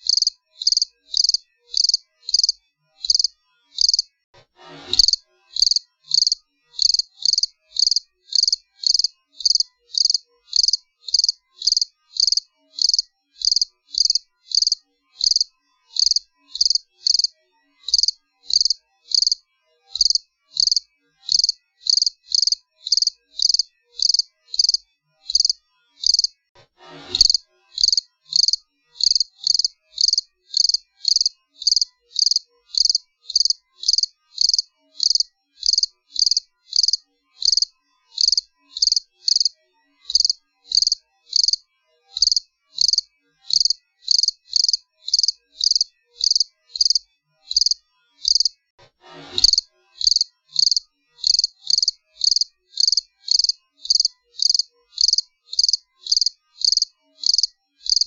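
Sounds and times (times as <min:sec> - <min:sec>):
cricket chirping: 0:00.0 - 0:04.1, 0:05.0 - 0:17.3, 0:17.9 - 0:19.4, 0:20.0 - 0:26.3, 0:27.3 - 0:39.5, 0:40.1 - 0:41.6, 0:42.2 - 0:48.5, 0:49.4 - 0:58.0.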